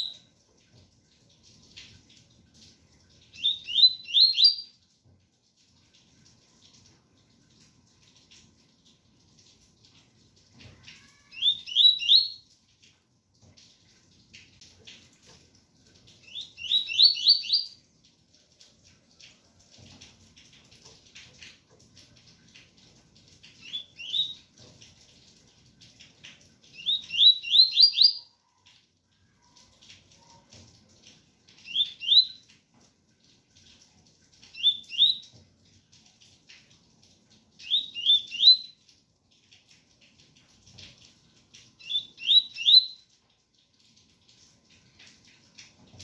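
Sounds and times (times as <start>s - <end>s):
faint rain: 0.0s - 46.0s.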